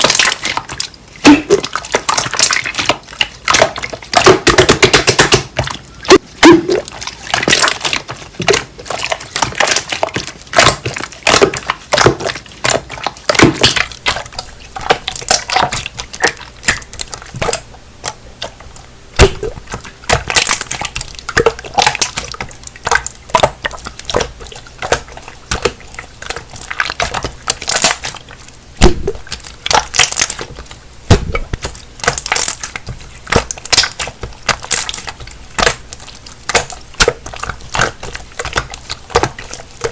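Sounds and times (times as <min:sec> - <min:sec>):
slime squelching by hand: 0:00.0 - 0:39.9.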